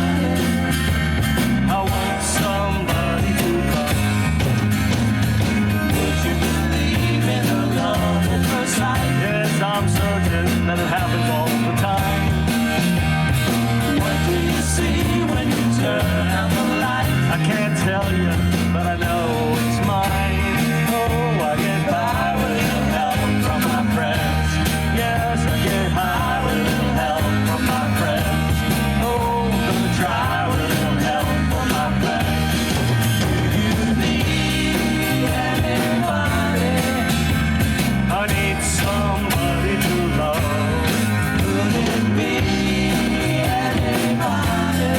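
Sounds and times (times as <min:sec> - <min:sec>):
person singing: 0:00.0 - 0:00.7, 0:01.6 - 0:04.3, 0:05.9 - 0:12.6, 0:13.9 - 0:37.4, 0:38.0 - 0:44.9
bass guitar: 0:00.0 - 0:44.9
electric guitar: 0:00.0 - 0:44.9.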